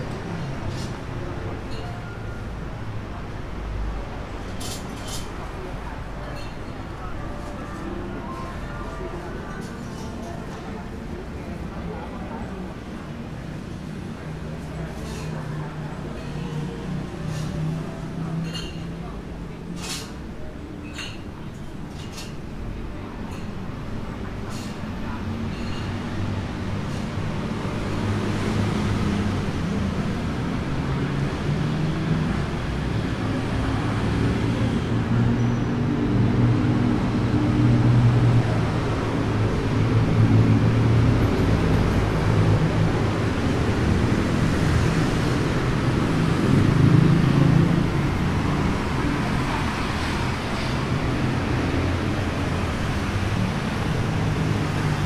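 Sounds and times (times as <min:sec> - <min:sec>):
steady traffic rumble: 0:00.0 - 0:55.0
vehicle engines passing: 0:00.0 - 0:55.0.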